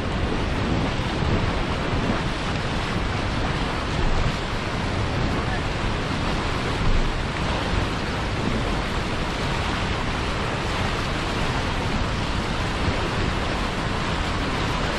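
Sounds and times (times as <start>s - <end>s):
white water rushing: 0.0s - 14.9s.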